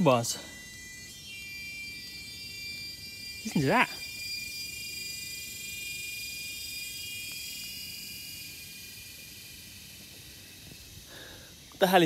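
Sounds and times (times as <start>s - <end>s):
insects whining: 0.0s - 12.0s.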